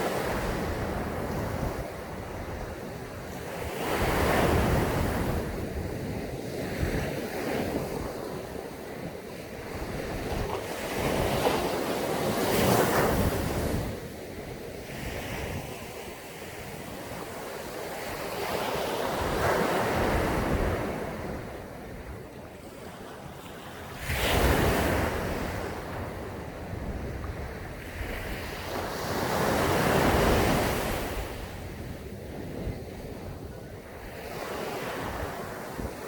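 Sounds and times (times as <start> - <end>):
waves breaking on sandy beach: 0.0 - 36.0
wind buffeting microphone: 0.0 - 36.0.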